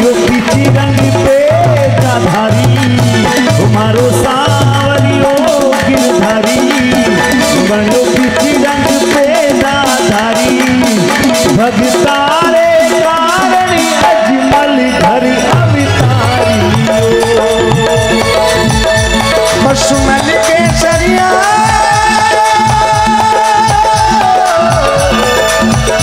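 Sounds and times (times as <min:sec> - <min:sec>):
dholak drum beat: 0:00.0 - 0:26.0
harmonium: 0:00.0 - 0:26.0
keyboard: 0:00.0 - 0:26.0
man singing: 0:00.0 - 0:26.0.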